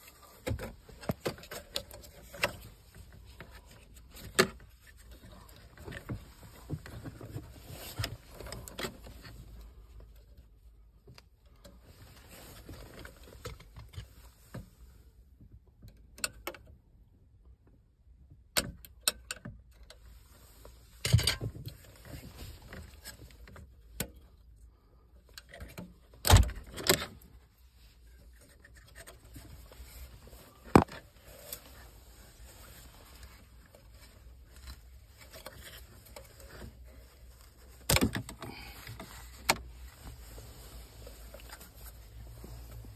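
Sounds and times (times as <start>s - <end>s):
rustling of wiring and plastic connectors: 0.0s - 42.9s.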